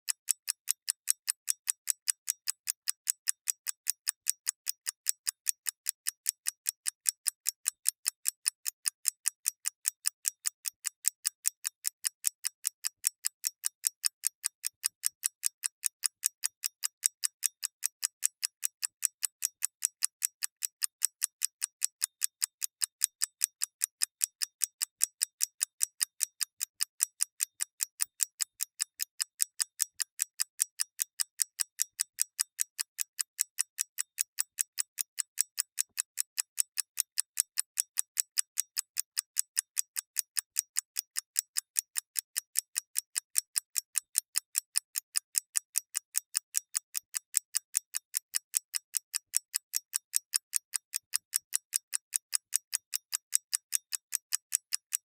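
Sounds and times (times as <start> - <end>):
mechanical clock ticking: 0.0 - 55.0.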